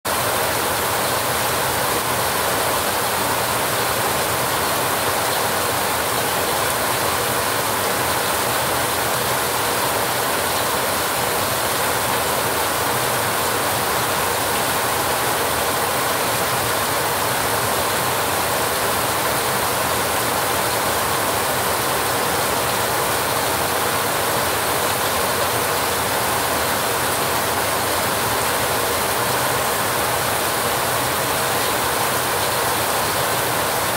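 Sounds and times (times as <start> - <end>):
heavy rain on a metal roof: 0.0 - 33.9.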